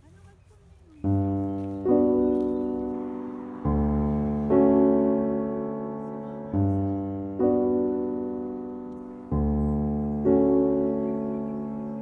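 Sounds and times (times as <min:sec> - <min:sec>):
slow solo piano chords: 0:01.0 - 0:12.0.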